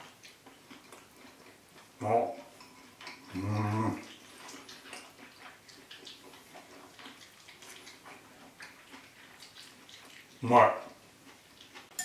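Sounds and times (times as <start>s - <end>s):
faint chewing sounds: 0.0s - 12.0s.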